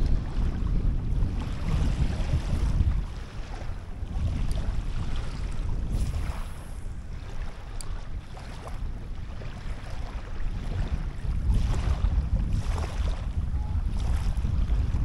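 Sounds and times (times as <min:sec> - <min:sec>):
water washing at shoreline: 0:00.0 - 0:15.0
wind buffeting microphone: 0:00.0 - 0:15.0.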